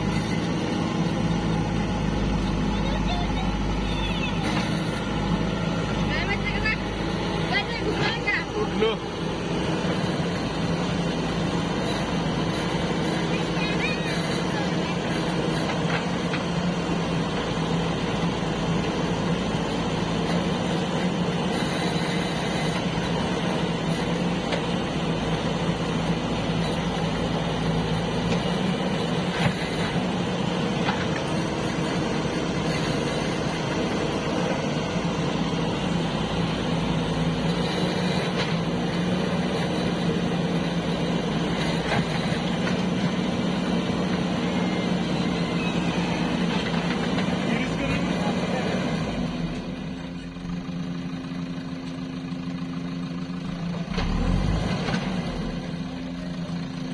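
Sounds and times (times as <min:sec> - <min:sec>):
diesel engine running steadily: 0:00.0 - 0:56.9.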